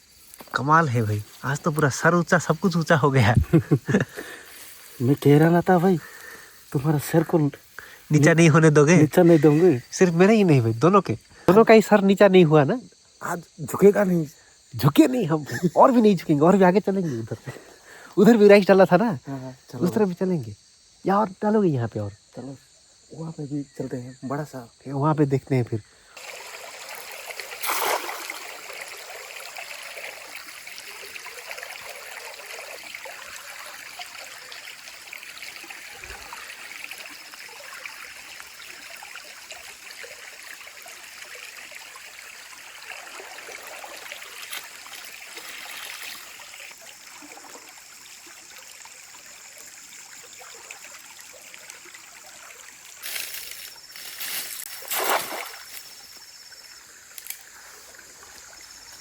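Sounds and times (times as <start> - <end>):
creek water trickling: 0.0 - 59.0.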